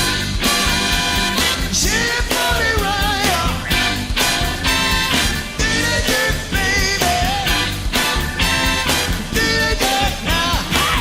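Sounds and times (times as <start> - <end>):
band playing upbeat music: 0.0 - 11.0.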